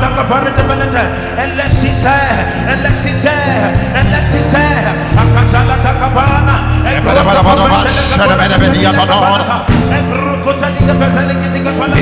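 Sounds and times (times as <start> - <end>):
live church music with heavy bass: 0.0 - 12.0.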